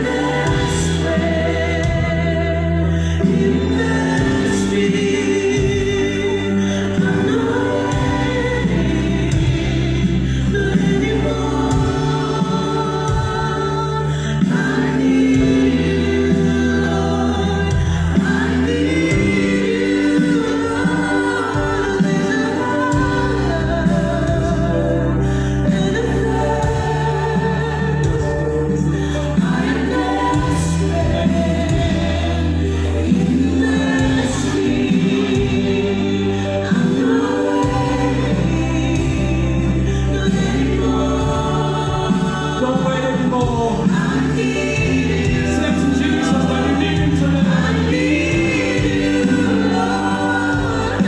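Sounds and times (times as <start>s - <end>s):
bass guitar: 0.0s - 51.0s
keyboard: 0.0s - 51.0s
people singing: 0.0s - 51.0s.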